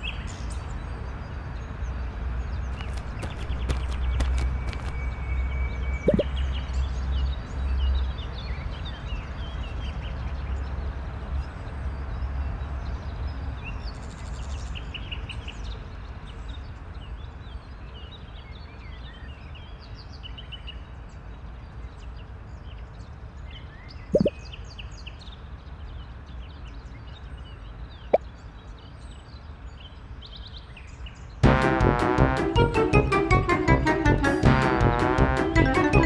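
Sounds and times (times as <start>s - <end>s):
small birds chirping: 0.0s - 31.4s.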